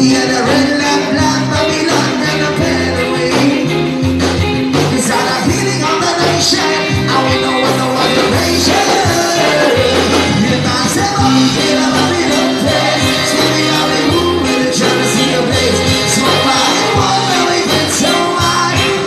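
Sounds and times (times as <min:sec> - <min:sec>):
band playing with lead singer: 0:00.0 - 0:19.0.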